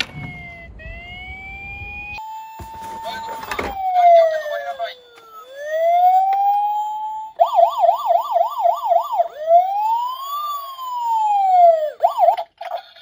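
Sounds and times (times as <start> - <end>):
emergency vehicle siren: 0.0 - 12.8.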